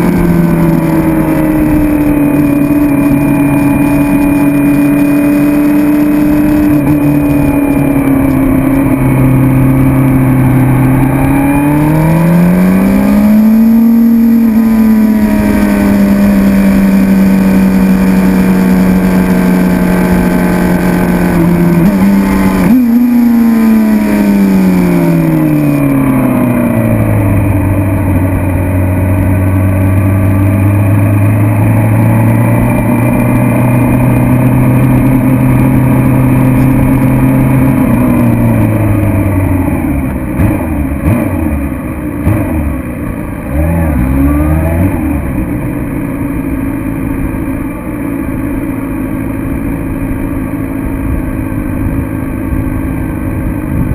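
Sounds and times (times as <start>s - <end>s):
engine throttle blips: 0.0s - 53.9s
motorcycle engine slowing down: 0.0s - 53.9s
rush of wind: 0.0s - 53.9s.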